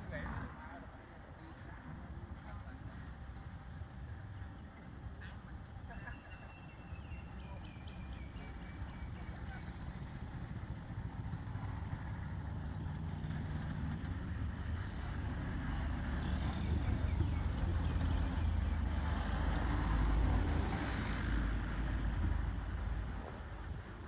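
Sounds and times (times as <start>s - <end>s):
vehicle engine rumbling: 1.4s - 24.0s.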